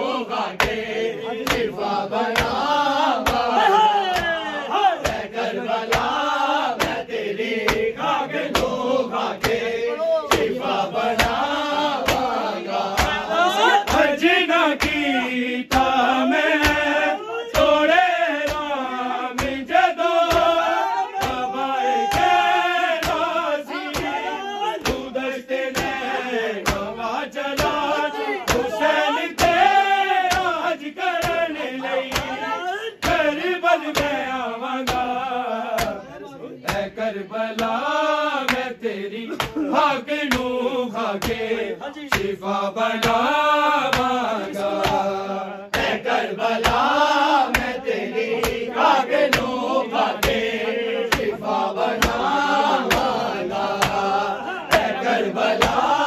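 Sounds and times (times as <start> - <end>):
men chanting a lament: 0.0 - 56.0
hands beating on chests: 0.6 - 36.0, 39.3 - 40.6, 41.2 - 42.4, 43.0 - 47.8, 48.4 - 56.0.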